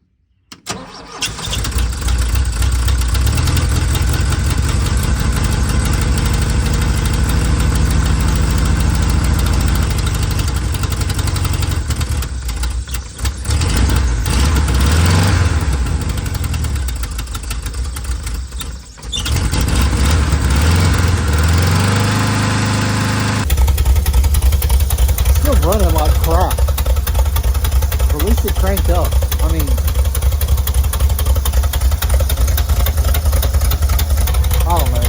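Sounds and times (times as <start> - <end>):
engine running unevenly: 1.9 - 35.0.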